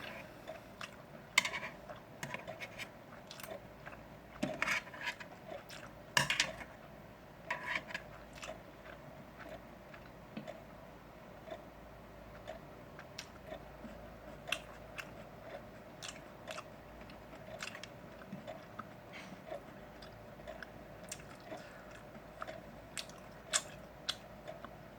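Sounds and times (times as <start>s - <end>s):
person chewing meat: 0.1s - 10.8s, 11.4s - 24.9s.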